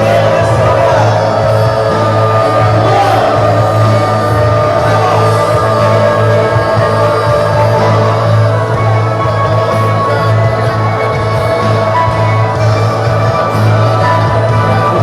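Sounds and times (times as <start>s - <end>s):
crowd singing and calling out: 0.0s - 15.0s
worship music with held chords: 0.0s - 15.0s.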